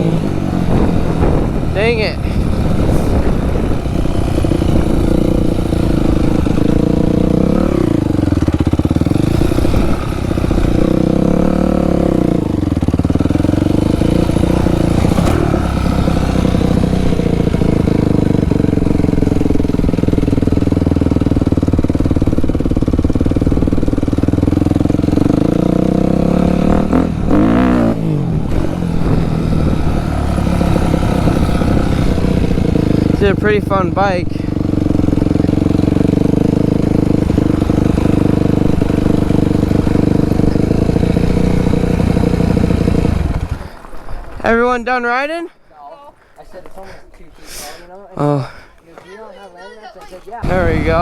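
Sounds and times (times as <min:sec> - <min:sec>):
dirt bike engine revving: 0:00.0 - 0:45.4, 0:50.3 - 0:51.0.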